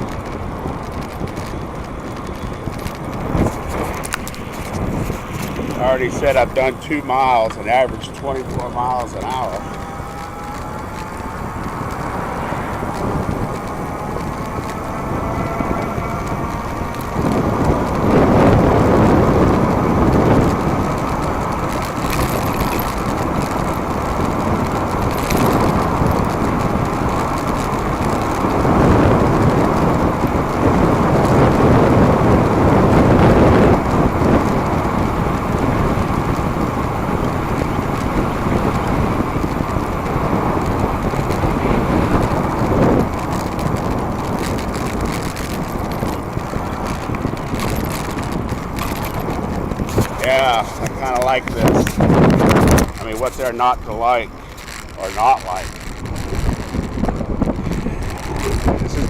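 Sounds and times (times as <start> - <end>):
tyre and road noise: 0.0 - 59.0
wind rushing over microphone: 0.0 - 59.0.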